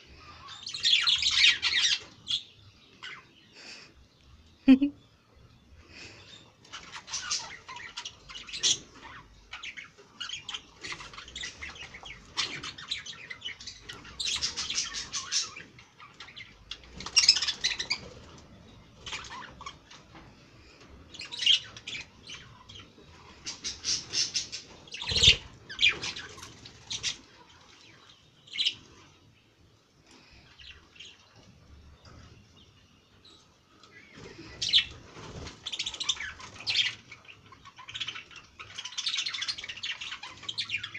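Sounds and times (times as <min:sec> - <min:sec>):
budgerigars chirping and chattering: 0:00.2 - 0:03.9, 0:05.9 - 0:29.2, 0:30.1 - 0:40.9.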